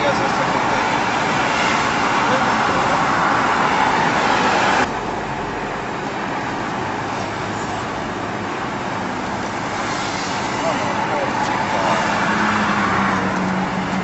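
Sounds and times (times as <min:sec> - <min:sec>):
vehicle road and engine noise: 0:00.0 - 0:14.0.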